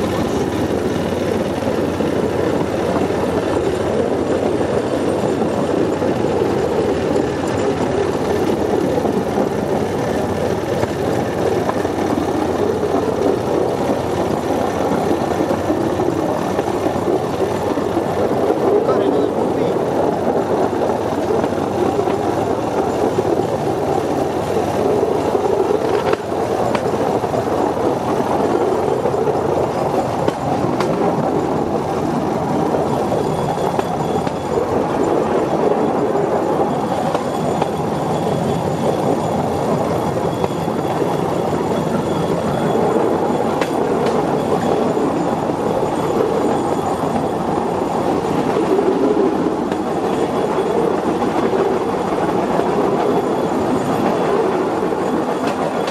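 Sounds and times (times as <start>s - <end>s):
rail cart running on track: 0.0s - 55.9s.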